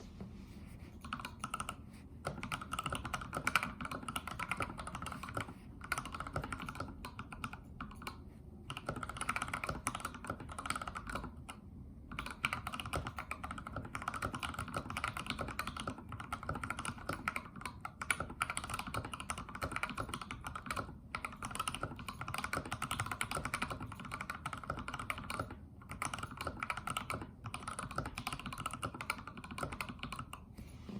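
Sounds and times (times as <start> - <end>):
mechanical keyboard typing: 1.0 - 30.4.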